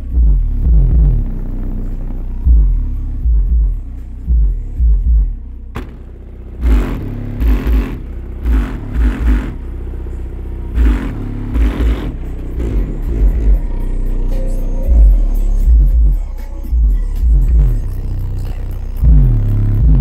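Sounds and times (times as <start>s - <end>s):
bass-heavy music from car subwoofer: 0.0s - 20.0s
noisy buzz: 0.0s - 20.0s.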